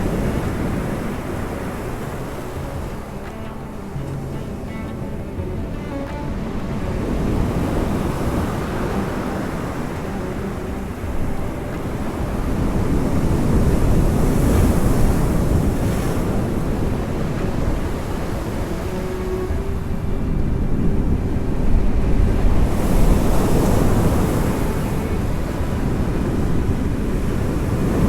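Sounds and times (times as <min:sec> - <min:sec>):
sea waves washing on shore: 0:00.0 - 0:28.0
wind buffeting microphone: 0:00.0 - 0:28.0.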